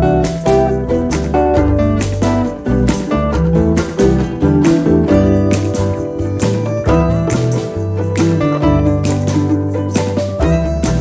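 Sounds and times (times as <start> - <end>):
held bass notes: 0.0 - 11.0
plucked melody: 0.0 - 11.0.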